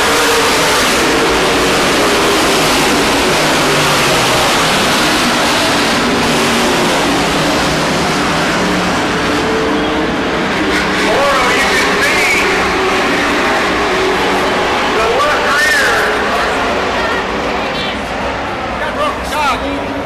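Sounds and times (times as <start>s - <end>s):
race truck engines running: 0.0s - 20.0s.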